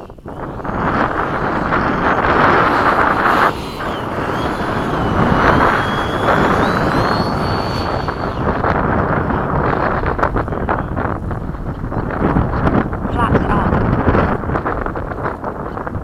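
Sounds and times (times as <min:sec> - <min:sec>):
electric ducted fan whine: 0:00.0 - 0:16.0
wind buffeting on microphone: 0:00.0 - 0:16.0.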